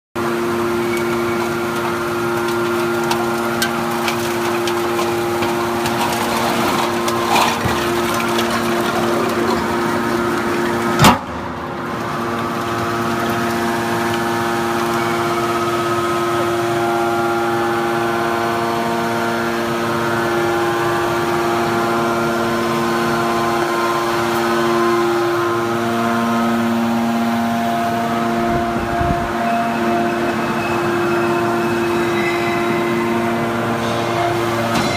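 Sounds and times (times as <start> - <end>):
hydraulic unit loud hum: 0.2 - 34.9.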